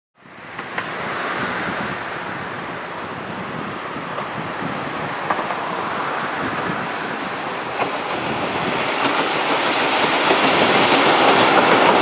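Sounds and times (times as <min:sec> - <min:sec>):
train wheels rumbling on rail: 0:00.3 - 0:12.0.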